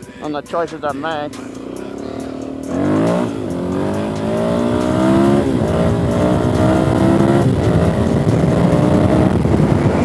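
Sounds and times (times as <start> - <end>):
motorcycle engine accelerating: 1.3 - 10.0.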